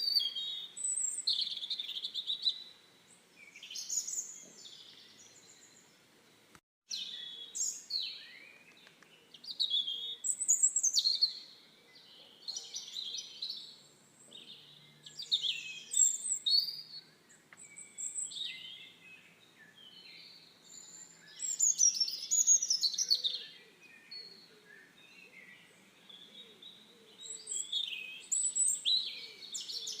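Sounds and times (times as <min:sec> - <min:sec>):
songbird chirping and warbling: 0:00.0 - 0:30.0.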